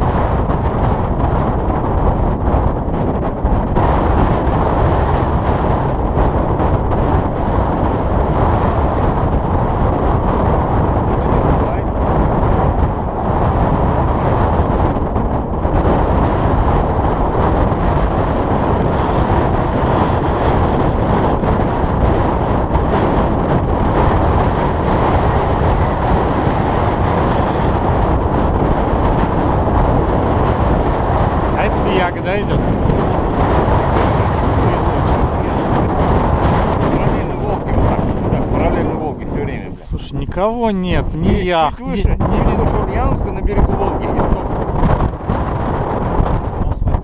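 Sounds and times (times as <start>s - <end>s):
strong wind buffeting microphone: 0.0s - 47.0s.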